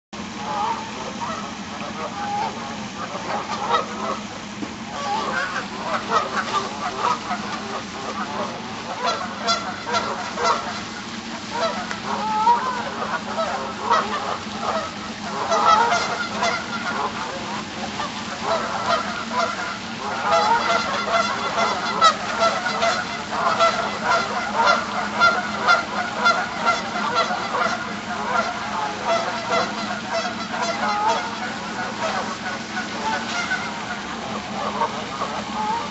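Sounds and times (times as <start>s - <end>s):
geese honking: 0.3s - 35.9s.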